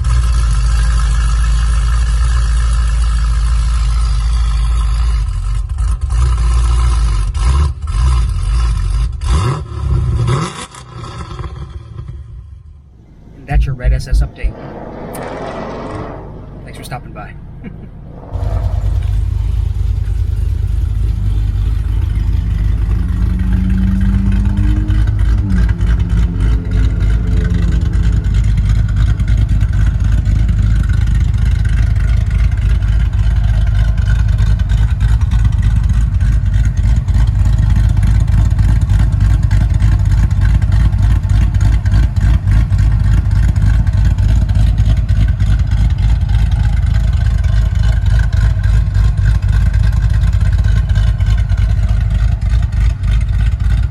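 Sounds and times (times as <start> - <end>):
car engine running loud: 0.0 - 53.9
engine revving: 0.0 - 53.9.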